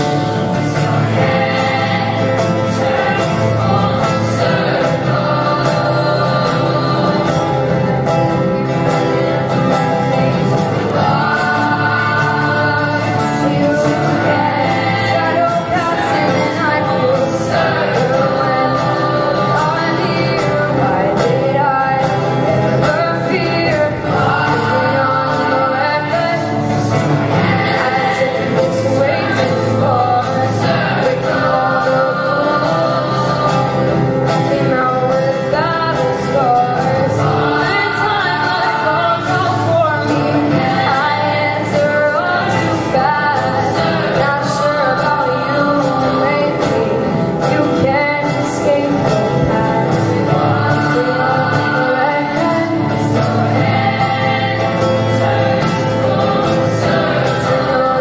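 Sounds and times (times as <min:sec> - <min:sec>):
choir holding harmonies: 0:00.0 - 0:58.0
woman singing into a microphone: 0:00.0 - 0:58.0.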